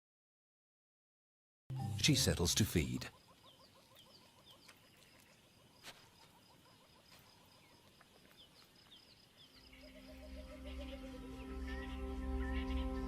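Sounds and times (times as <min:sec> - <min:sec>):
insects and birds chirping: 0:01.7 - 0:13.0.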